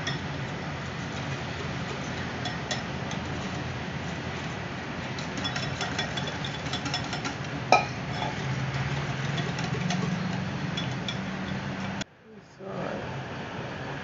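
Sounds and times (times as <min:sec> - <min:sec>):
spoon scraping a bowl: 0:00.0 - 0:11.9
low hum: 0:00.0 - 0:13.2.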